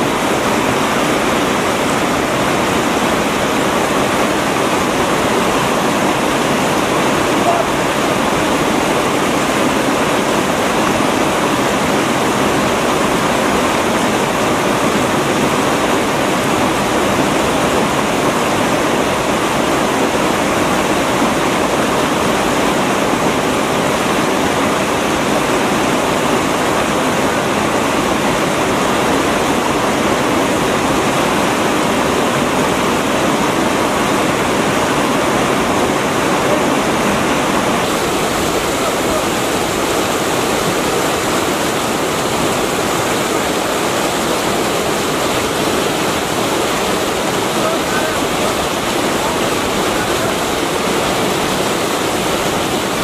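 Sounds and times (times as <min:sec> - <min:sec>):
river rapids rushing over boulders: 0:00.0 - 0:53.0.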